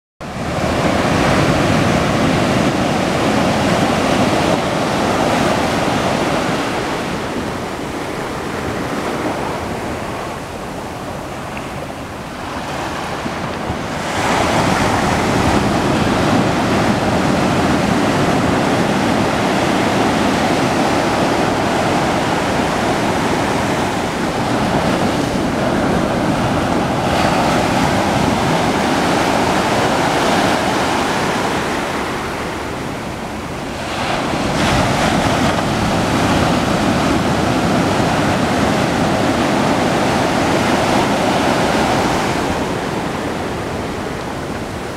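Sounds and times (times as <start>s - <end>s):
waves breaking on sandy beach: 0.2s - 44.9s.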